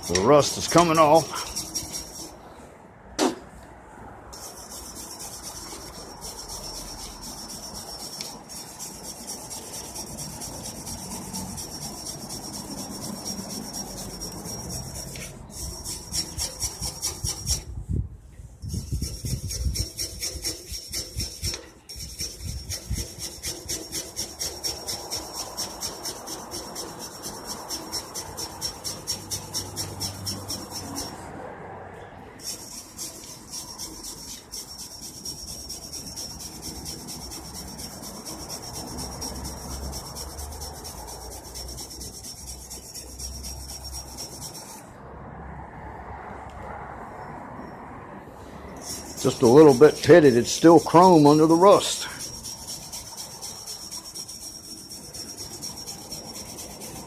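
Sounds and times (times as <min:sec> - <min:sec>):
brush scrubbing metal: 0:00.0 - 0:02.5, 0:04.3 - 0:17.8, 0:18.6 - 0:31.3, 0:32.4 - 0:44.9, 0:48.8 - 0:57.0.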